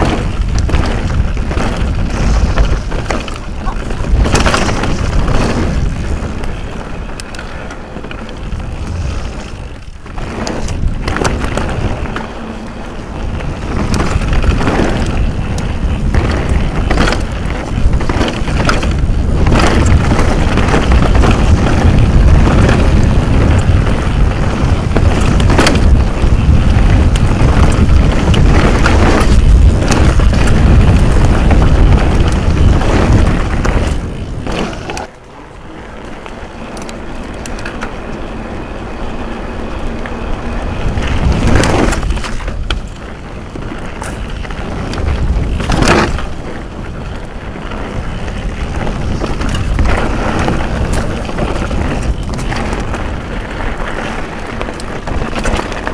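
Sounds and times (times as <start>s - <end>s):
bike rattling over rocks: 0.0s - 55.9s
wind rush: 0.0s - 55.9s.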